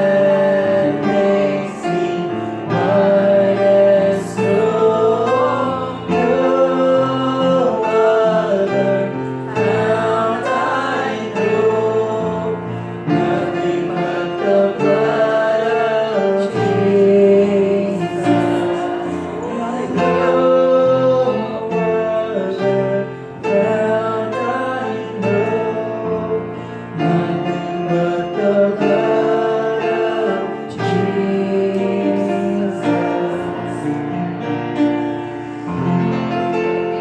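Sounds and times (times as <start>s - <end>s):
person singing: 0.0s - 34.3s
piano accompaniment: 0.0s - 37.0s.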